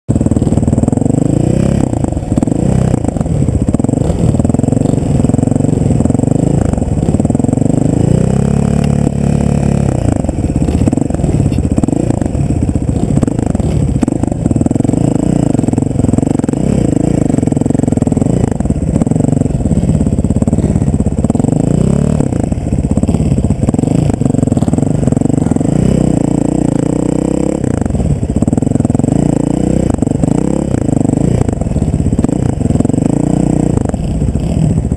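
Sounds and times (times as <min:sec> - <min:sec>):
vehicle engine running: 0:00.1 - 0:34.9.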